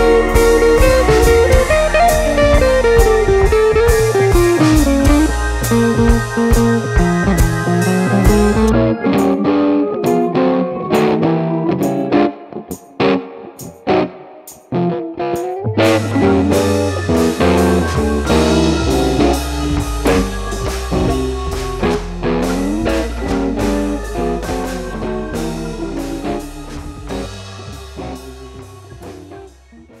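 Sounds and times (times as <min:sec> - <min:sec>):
background music with steady beat: 0:00.0 - 0:11.2, 0:15.4 - 0:30.0.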